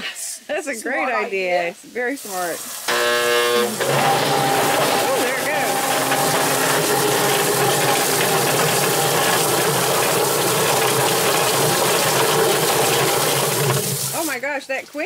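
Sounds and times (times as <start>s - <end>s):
hose spraying water: 2.0s - 15.0s.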